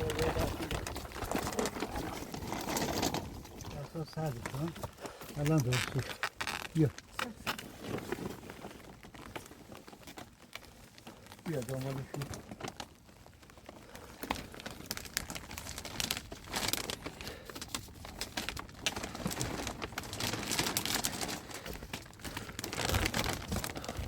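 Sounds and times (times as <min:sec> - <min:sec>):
plastic sheeting crinkling: 0:00.0 - 0:24.0.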